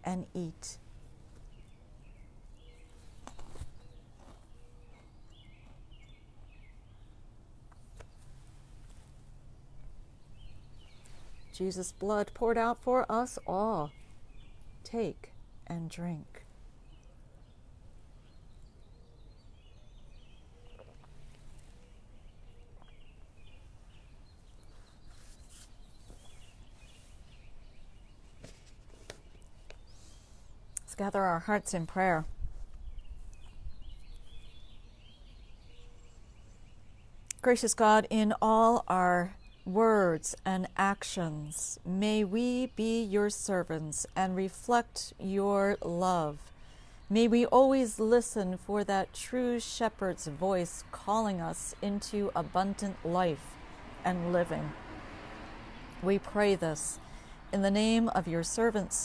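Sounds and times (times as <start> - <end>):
songbird chirping: 0.0 - 59.0.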